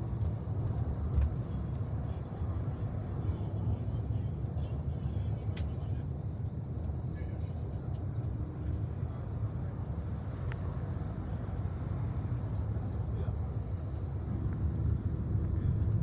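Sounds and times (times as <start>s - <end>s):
road and engine rumble in vehicle: 0.0s - 16.0s.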